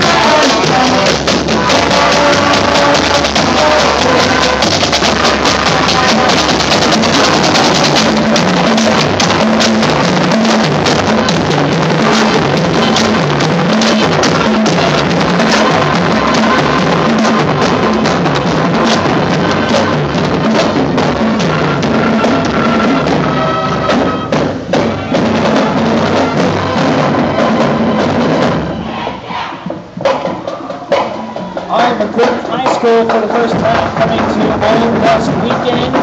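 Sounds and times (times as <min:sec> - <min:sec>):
marching band playing: 0:00.0 - 0:36.0
marching snare and bass drums: 0:00.0 - 0:36.0.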